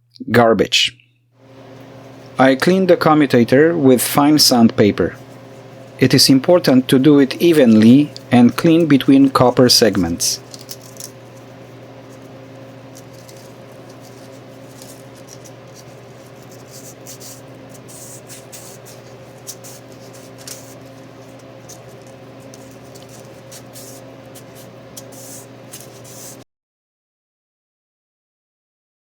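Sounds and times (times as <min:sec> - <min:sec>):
steady low hum: 0:00.0 - 0:26.4.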